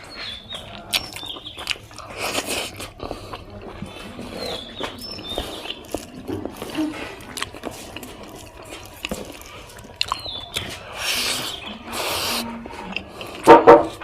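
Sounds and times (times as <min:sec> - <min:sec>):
chewing and biting: 0:00.0 - 0:14.0.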